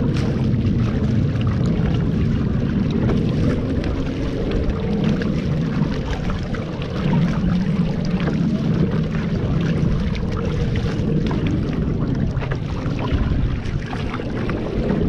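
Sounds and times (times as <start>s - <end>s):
small boat motor running: 0.0s - 15.0s
water lapping against hull: 0.0s - 15.0s.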